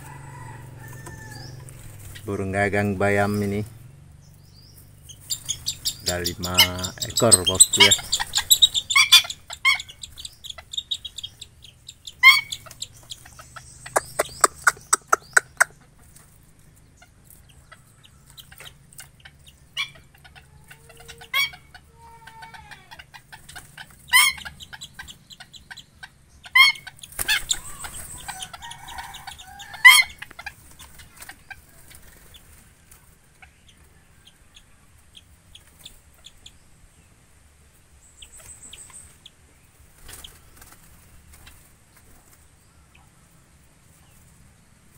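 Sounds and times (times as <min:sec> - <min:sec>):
birds calling: 0:00.0 - 0:44.9
rustle: 0:00.0 - 0:44.9.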